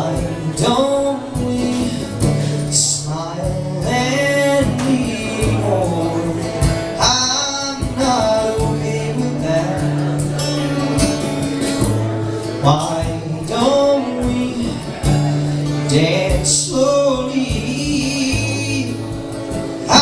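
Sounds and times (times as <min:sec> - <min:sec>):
instrumental accompaniment: 0:00.0 - 0:20.0
man singing: 0:00.0 - 0:20.0.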